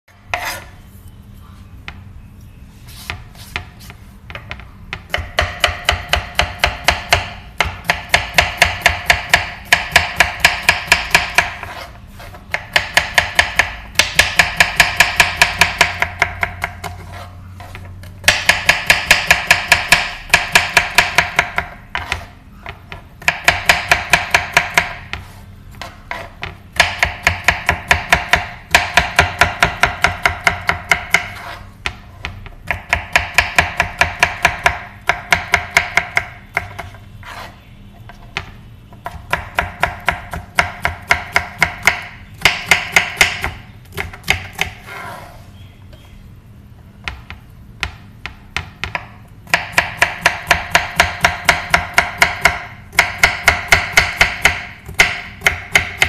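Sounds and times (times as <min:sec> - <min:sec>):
knife chopping on wooden board: 0:03.0 - 0:45.4, 0:47.0 - 0:56.0.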